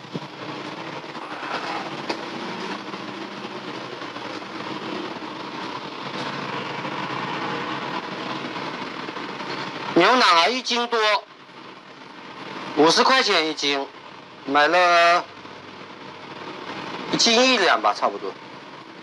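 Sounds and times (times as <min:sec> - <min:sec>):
gas burner roaring: 0:00.0 - 0:19.0.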